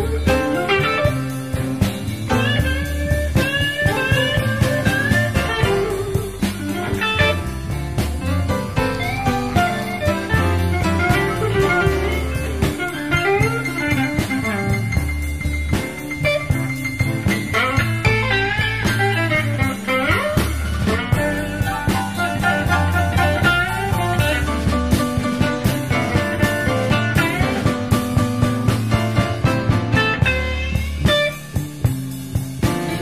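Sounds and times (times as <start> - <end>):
drum kit: 0.0 - 33.0
electric guitar soloing: 0.0 - 33.0
walking bass: 0.0 - 33.0.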